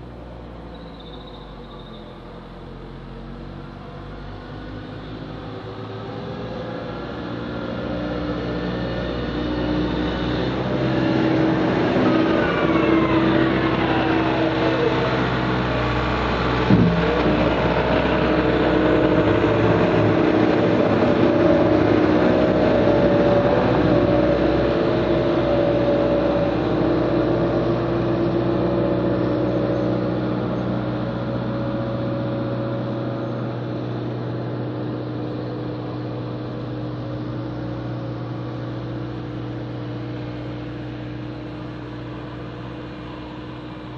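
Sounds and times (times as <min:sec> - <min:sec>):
vehicle engine running: 0:00.0 - 0:43.9.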